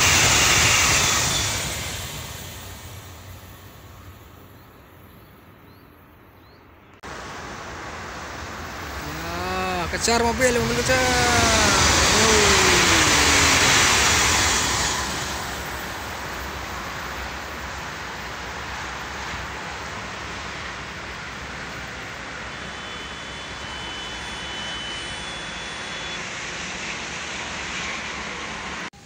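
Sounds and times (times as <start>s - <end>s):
electric train rushing past: 0.0s - 5.9s, 6.6s - 29.0s.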